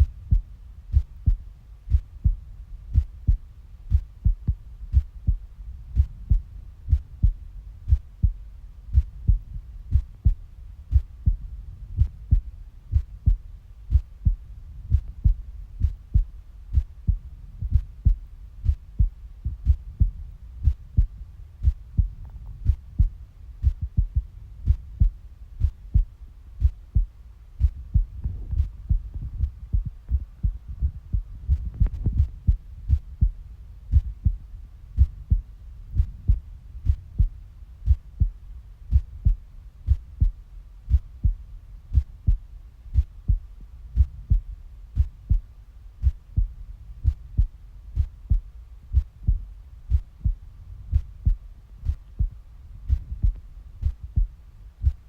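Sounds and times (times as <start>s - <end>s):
faint steady hum: 0.0s - 55.0s
heartbeat: 0.0s - 55.0s.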